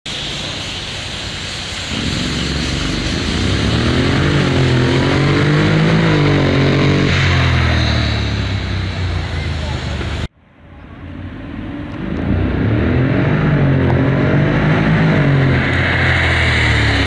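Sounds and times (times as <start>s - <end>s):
scooter engine accelerating: 1.9s - 10.3s, 11.7s - 17.0s.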